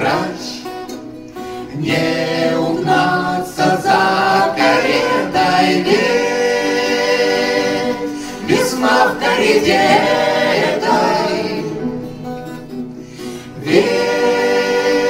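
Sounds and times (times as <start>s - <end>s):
acoustic guitar strumming: 0.0s - 15.0s
group singing lullaby in harmony: 0.0s - 15.0s.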